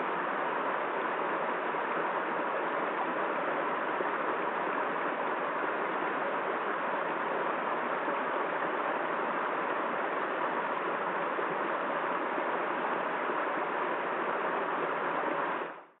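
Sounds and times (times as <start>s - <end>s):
stream rushing over rocks: 0.0s - 15.7s.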